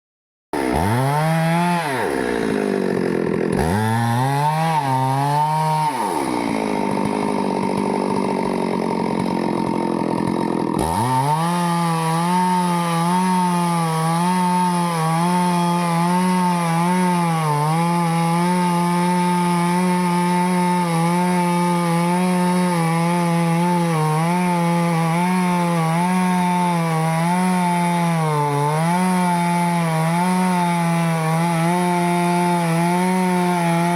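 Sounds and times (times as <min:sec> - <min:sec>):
chainsaw cutting wood: 0:00.6 - 0:33.9.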